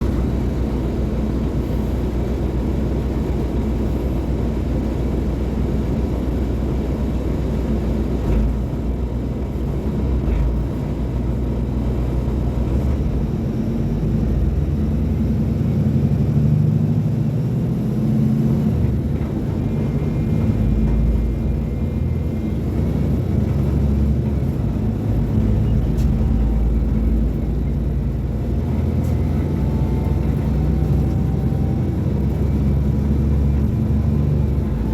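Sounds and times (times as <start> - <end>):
bus diesel engine drone: 0.0 - 34.9.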